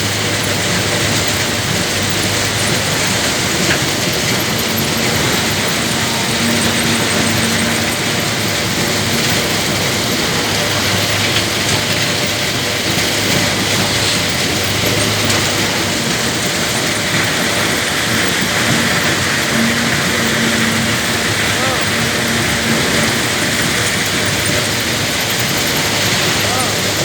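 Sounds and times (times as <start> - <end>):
excavator diesel engine hum: 0.0 - 27.0
loud rushing noise: 0.0 - 27.0.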